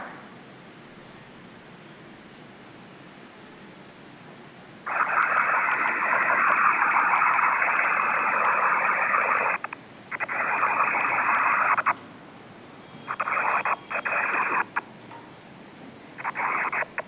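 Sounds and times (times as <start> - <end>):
loud static hiss: 0.0 - 17.0.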